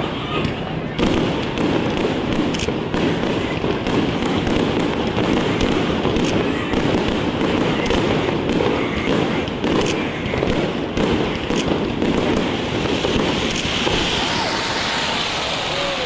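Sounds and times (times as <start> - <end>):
rumble of bursting fireworks: 0.0 - 16.0
sharp firework bangs: 0.4 - 16.0.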